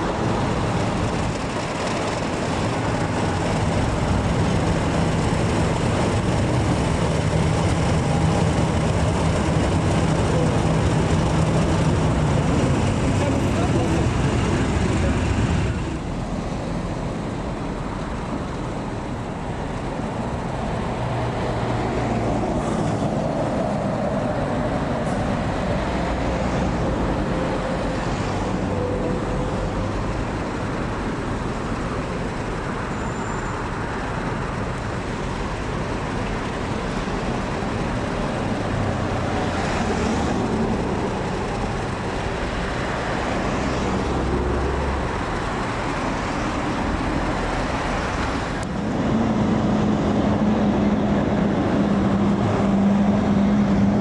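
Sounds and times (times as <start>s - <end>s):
diesel locomotive engines running: 0.0s - 54.0s.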